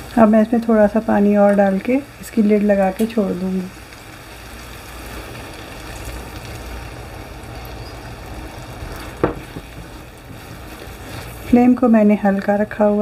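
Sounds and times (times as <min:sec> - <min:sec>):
gravy bubbling in a frying pan: 0:00.0 - 0:13.0.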